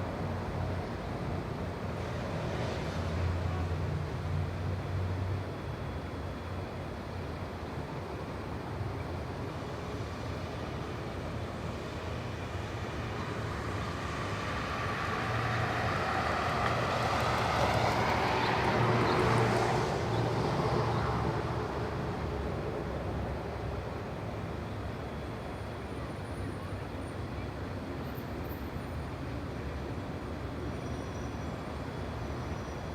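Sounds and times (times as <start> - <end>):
low rumble of background traffic: 0.0 - 32.9.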